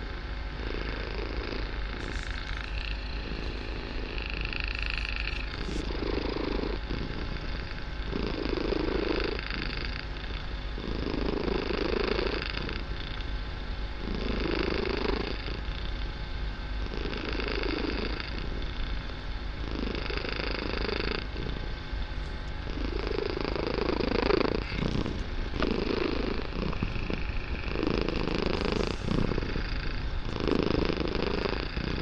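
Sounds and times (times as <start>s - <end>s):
kitten purring: 0.0s - 32.0s.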